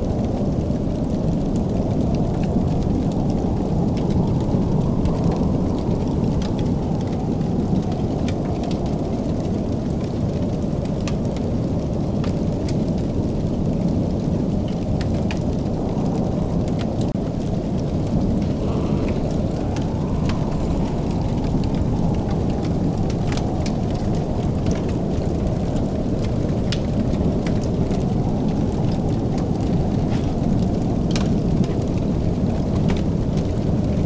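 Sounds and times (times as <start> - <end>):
wood fire crackling: 0.1 - 34.0.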